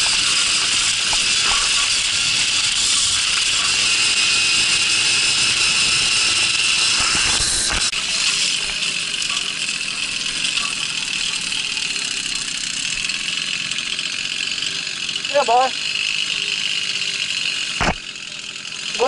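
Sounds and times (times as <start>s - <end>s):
moped engine running: 0.0s - 19.0s.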